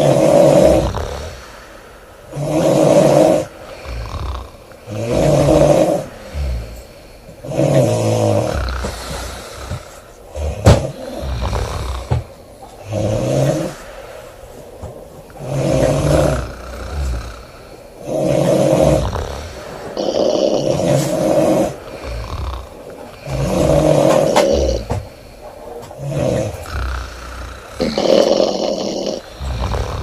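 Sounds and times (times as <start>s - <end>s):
woman snoring loudly: 0.0s - 1.5s, 2.3s - 6.8s, 7.4s - 13.9s, 15.4s - 25.1s, 26.0s - 30.0s.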